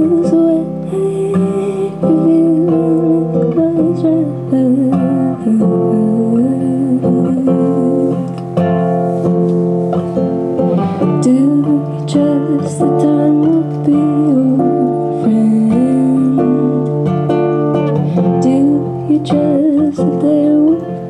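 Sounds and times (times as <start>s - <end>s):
woman singing: 0.0s - 8.7s, 10.9s - 21.0s
acoustic guitar: 0.0s - 21.0s.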